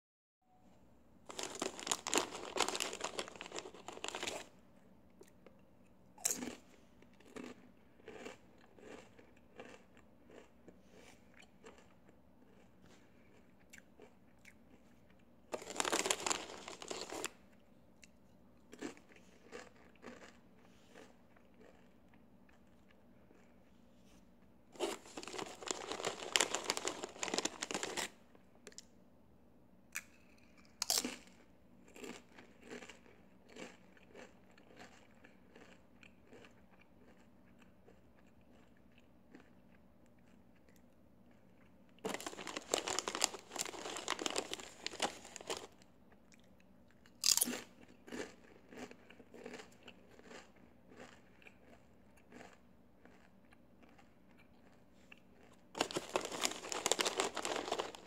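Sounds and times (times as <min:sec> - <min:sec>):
chips crunching while chewed: 0:01.3 - 0:04.6, 0:06.2 - 0:23.7, 0:24.8 - 0:28.9, 0:30.0 - 0:58.0.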